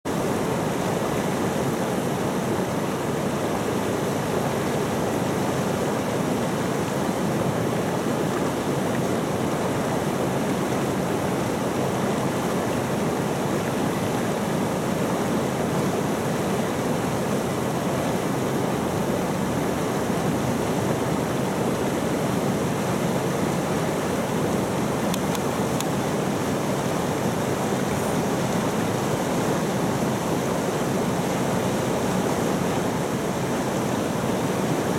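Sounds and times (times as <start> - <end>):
mountain river rushing: 0.1 - 34.9.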